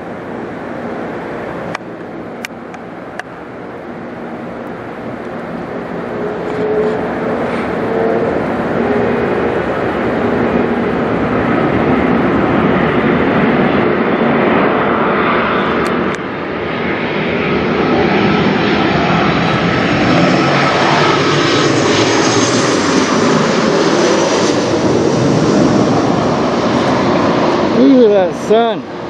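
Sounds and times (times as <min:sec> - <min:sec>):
jet airliner flying overhead: 0:00.0 - 0:29.0.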